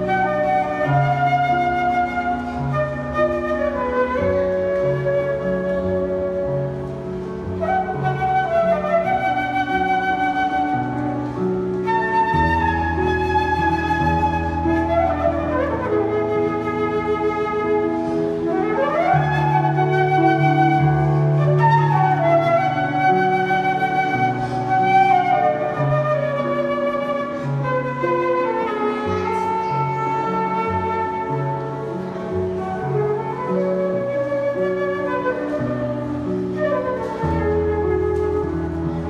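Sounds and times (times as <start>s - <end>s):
flute melody: 0.0s - 39.0s.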